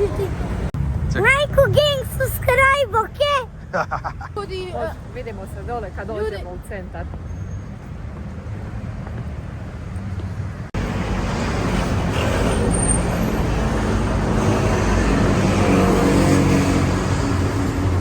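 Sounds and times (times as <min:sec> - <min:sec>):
passing cars rumbling: 0:00.0 - 0:18.0.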